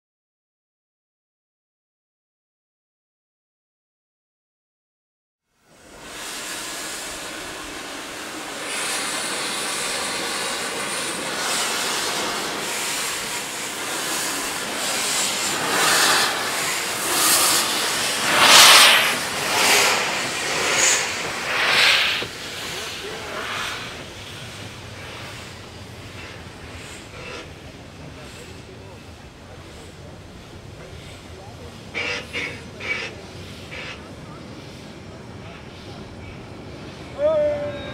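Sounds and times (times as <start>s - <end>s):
loud puffs of steam: 5.6s - 37.9s
steam locomotive hissing steam: 5.6s - 37.9s.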